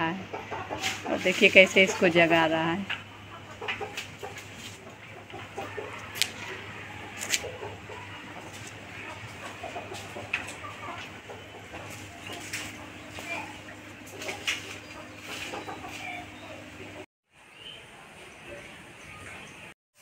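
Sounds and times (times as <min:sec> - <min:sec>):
chickens clucking: 0:00.0 - 0:17.1.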